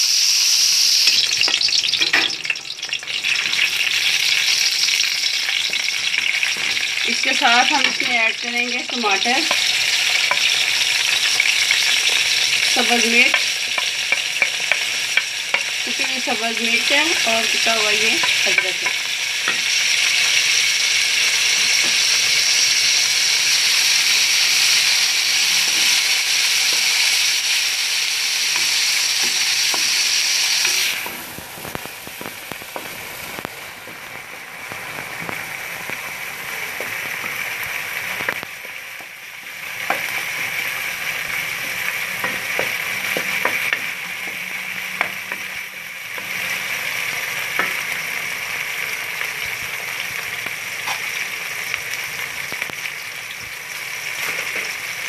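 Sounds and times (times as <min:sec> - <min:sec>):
vegetables sizzling in ghee: 0:00.0 - 0:55.0.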